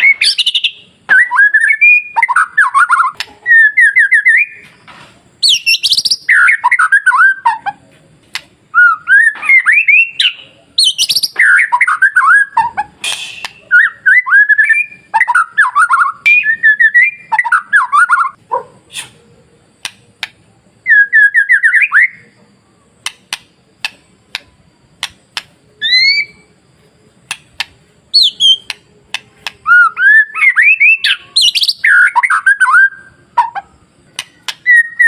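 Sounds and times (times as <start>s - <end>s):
bird singing whistled notes: 0.0s - 4.7s, 5.4s - 7.7s, 8.7s - 18.4s, 20.8s - 24.4s, 25.0s - 26.6s, 27.2s - 35.0s.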